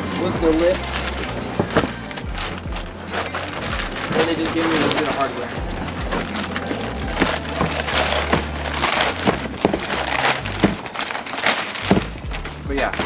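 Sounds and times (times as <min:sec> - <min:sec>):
packaging clicks and crinkling: 0:00.0 - 0:13.0.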